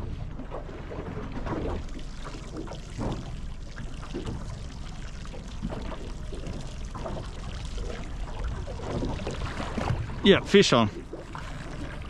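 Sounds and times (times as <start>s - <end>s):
waves lapping against boat: 0.0s - 12.0s.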